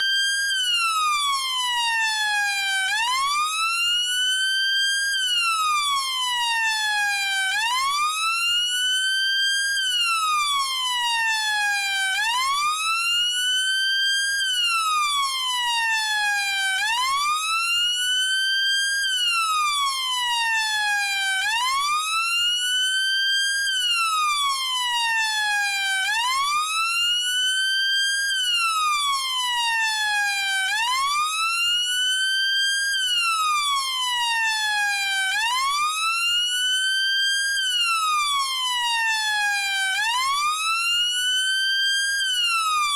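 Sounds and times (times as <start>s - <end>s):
police siren slow wail: 0.0s - 42.9s.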